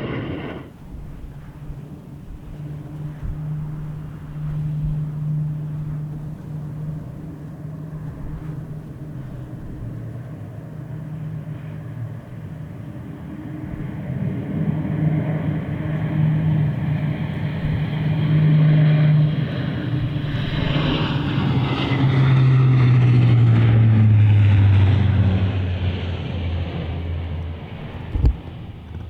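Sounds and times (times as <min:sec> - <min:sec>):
turboprop aircraft propeller drone: 0:00.0 - 0:29.0.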